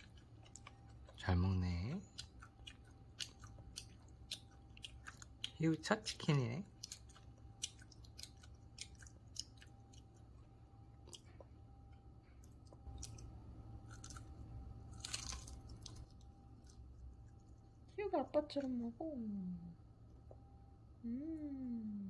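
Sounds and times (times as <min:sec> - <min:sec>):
child chewing crispy chicken: 0:00.0 - 0:17.8.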